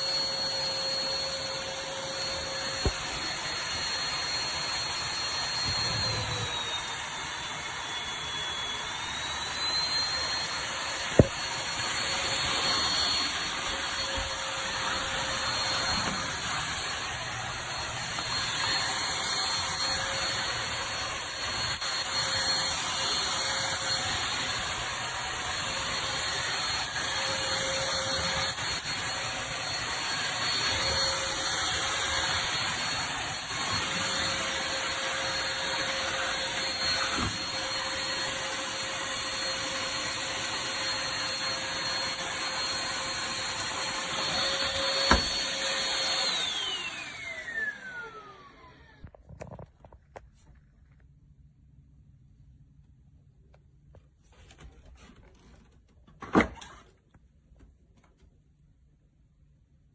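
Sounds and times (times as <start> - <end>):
vacuum cleaner whining: 0.0 - 49.6, 54.4 - 57.0.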